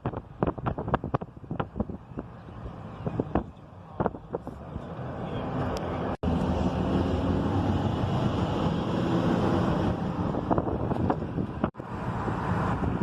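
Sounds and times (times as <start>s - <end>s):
moving vehicle rumble: 0.0s - 13.0s
wind buffeting microphone: 0.0s - 13.0s.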